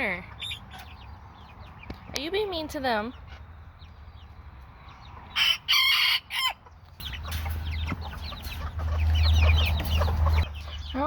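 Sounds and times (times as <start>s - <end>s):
chickens clucking and chirping: 0.0s - 11.0s
chickens squawking: 0.0s - 11.0s.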